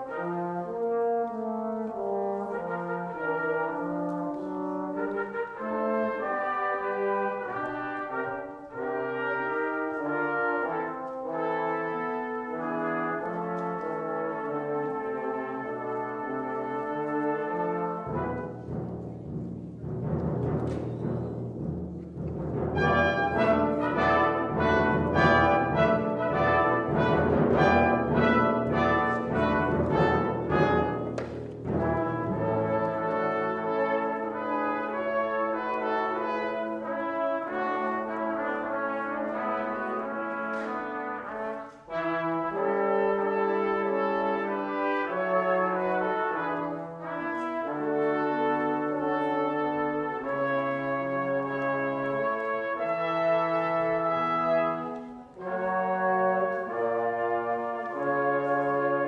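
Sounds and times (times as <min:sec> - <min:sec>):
brass ensemble playing a hymn: 0:00.0 - 0:59.0.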